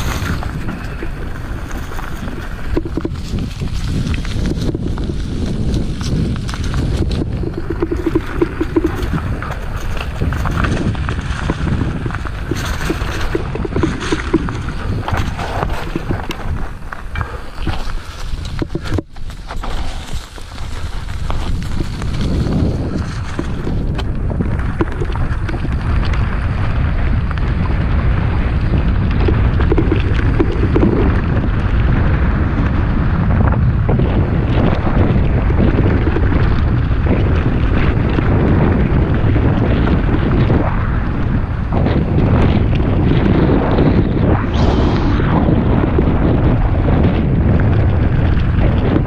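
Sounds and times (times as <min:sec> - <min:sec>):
bike tyres rattling on stones: 0:00.0 - 0:49.0
wind noise on microphone: 0:00.0 - 0:49.0.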